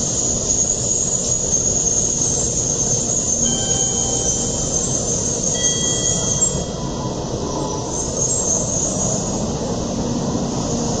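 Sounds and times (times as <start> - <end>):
train rumble and hiss: 0.0 - 11.0
thin high whine: 0.1 - 9.5.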